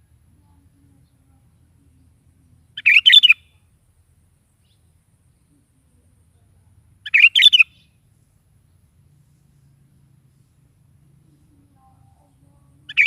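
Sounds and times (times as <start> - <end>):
bulbul singing: 0.4 - 13.0.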